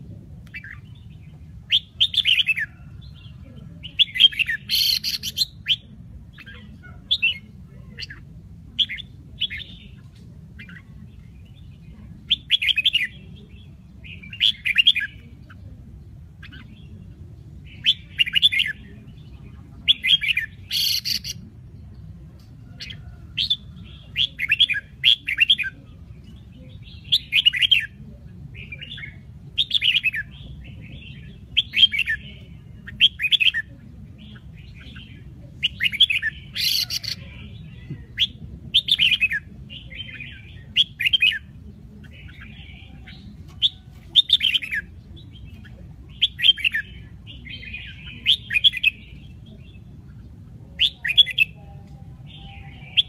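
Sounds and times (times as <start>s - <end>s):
bird singing warbled phrases: 0.0s - 53.0s.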